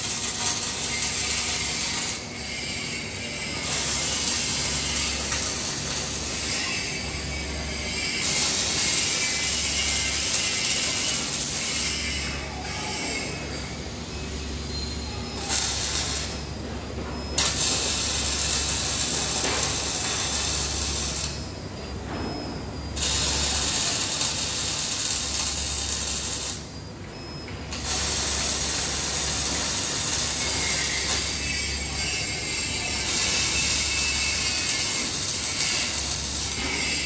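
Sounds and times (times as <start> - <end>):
welding arc crackling: 0.0 - 12.3, 15.4 - 16.6, 17.4 - 21.6, 22.9 - 26.7, 27.7 - 37.0.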